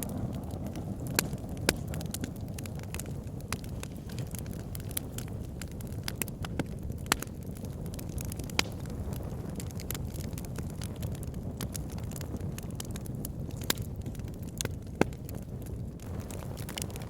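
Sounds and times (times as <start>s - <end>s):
wood fire crackling in log burner: 0.0s - 17.0s.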